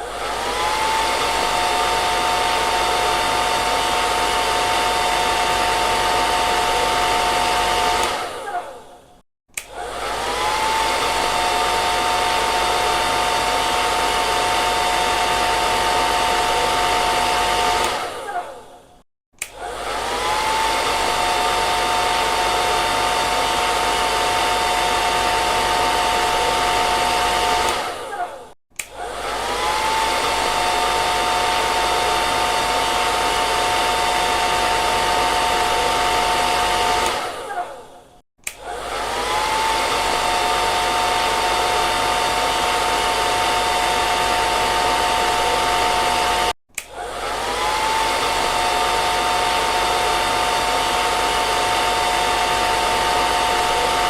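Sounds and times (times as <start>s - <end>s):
hair dryer running: 0.0s - 18.8s, 19.4s - 54.0s.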